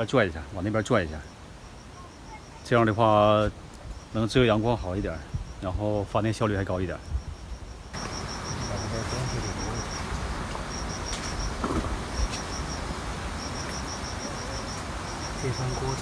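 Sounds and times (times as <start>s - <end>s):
insects chirping: 0.0s - 16.0s
steady background hiss: 0.0s - 16.0s.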